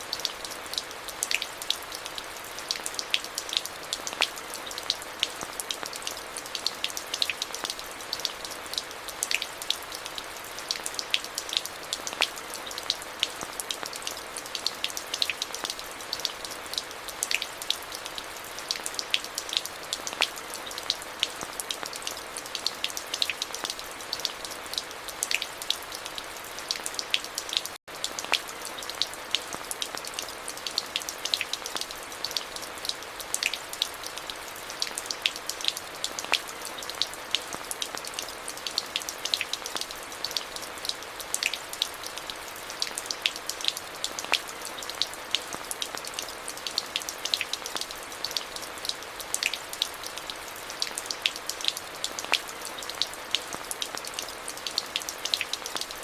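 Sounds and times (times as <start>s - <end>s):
raindrops ticking on hard surfaces: 0.0s - 56.0s
steady rain hiss: 0.0s - 56.0s.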